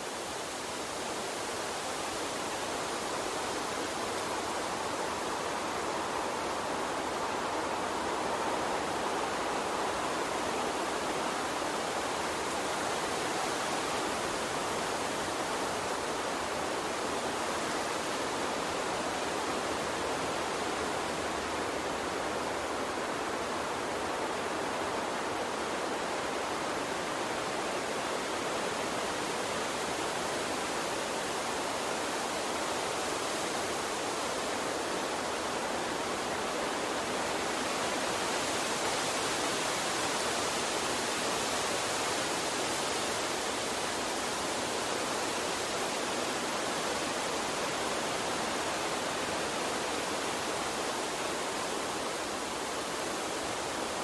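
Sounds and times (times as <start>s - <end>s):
water stream flowing: 0.0s - 54.0s.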